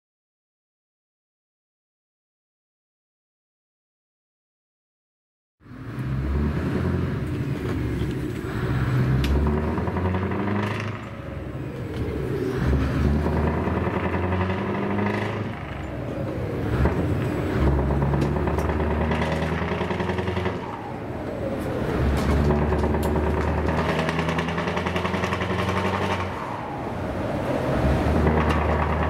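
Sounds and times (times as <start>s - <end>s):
truck engine accelerating: 5.6s - 29.0s.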